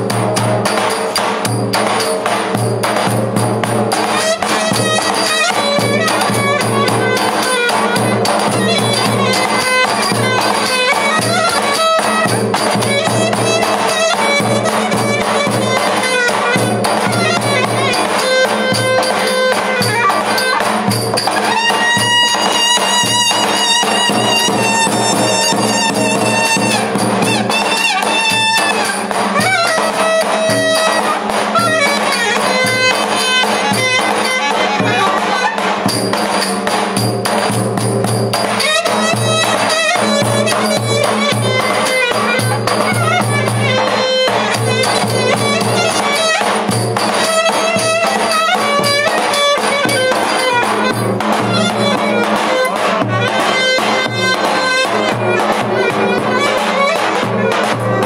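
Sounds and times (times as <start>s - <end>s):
clarinet melody: 4.0s - 20.6s, 21.2s - 35.8s, 38.6s - 46.4s, 47.2s - 58.0s.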